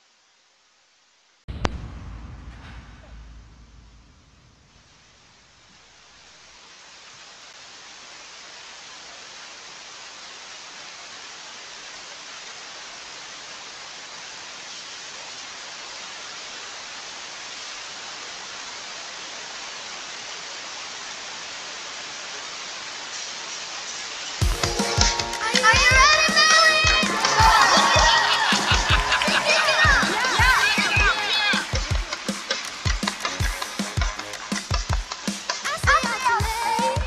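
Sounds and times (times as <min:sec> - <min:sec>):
steady static hiss: 0:00.0 - 0:30.4, 0:31.2 - 0:37.0.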